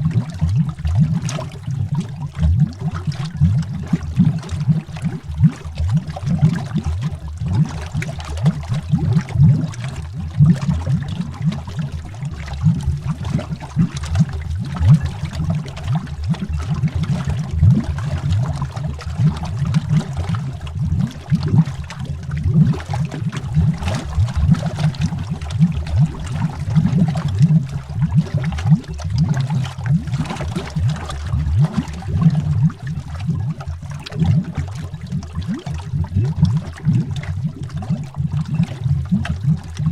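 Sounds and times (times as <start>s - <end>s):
underwater bubbles popping and gurgling: 0.0s - 39.9s.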